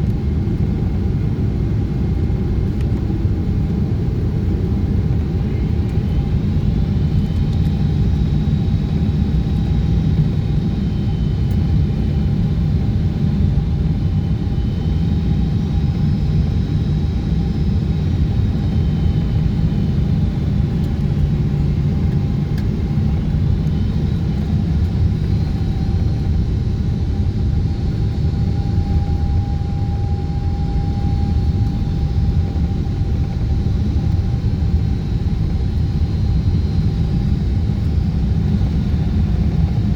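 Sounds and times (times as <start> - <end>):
airliner cabin rumble: 0.0 - 39.9
faint steady whine: 0.0 - 39.9.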